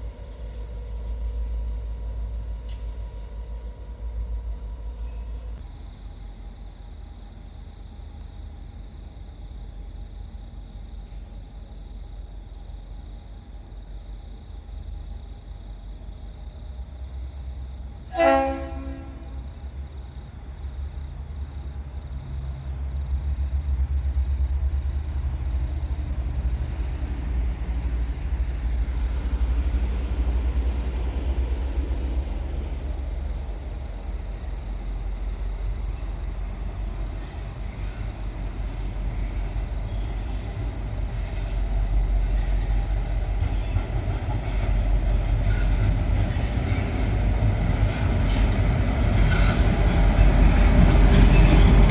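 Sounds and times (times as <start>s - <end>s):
diesel locomotive rumbling past: 0.0s - 51.9s.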